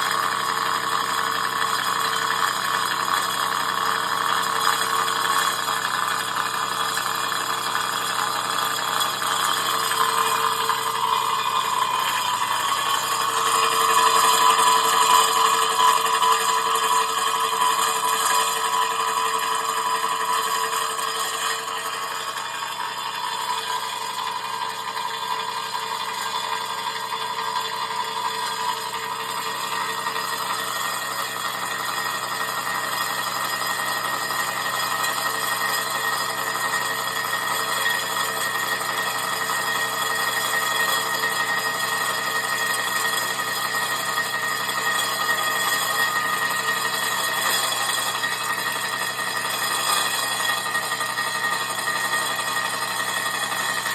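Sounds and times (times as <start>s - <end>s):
milling machine noise: 0.0s - 53.9s
saw blade whine: 0.0s - 53.9s.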